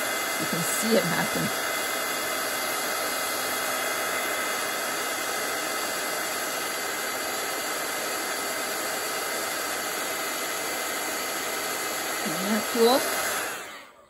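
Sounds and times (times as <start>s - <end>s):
heat tool blowing air: 0.0s - 14.0s.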